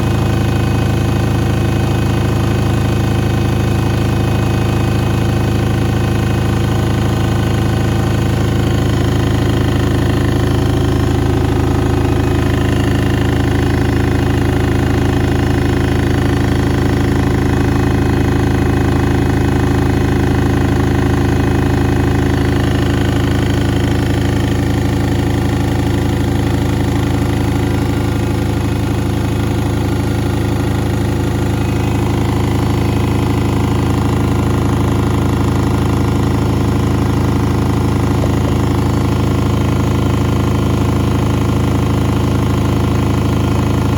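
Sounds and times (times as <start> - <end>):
washing machine humming: 0.0 - 43.9.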